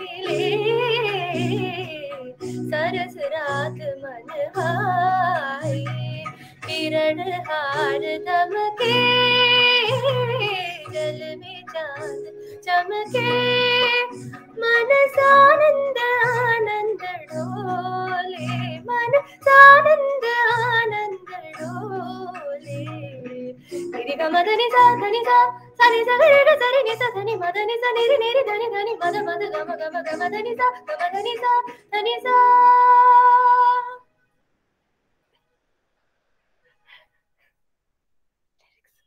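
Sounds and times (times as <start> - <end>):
quiet steady accompaniment: 0.0 - 34.0
woman singing: 0.0 - 34.0.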